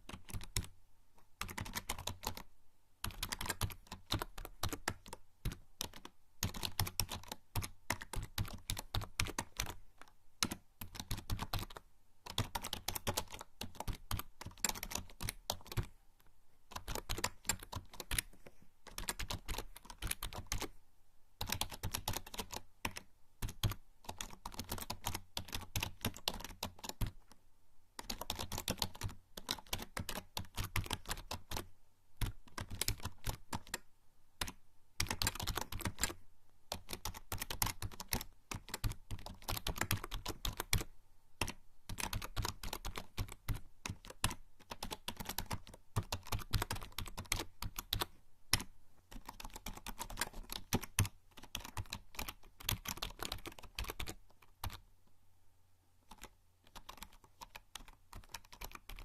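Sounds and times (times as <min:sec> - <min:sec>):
typing on computer keyboard: 0:00.0 - 0:00.7, 0:01.3 - 0:15.9, 0:16.7 - 0:20.7, 0:21.4 - 0:27.4, 0:28.0 - 0:54.8, 0:56.0 - 0:59.0.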